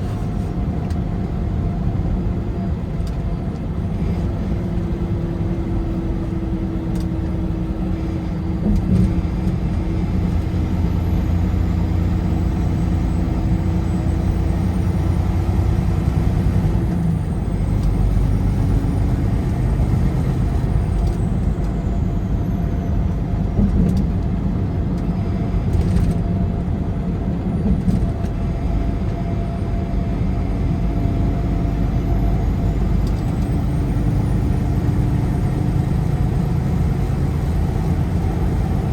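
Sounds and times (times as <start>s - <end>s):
car engine and tyre road noise: 0.0s - 38.9s.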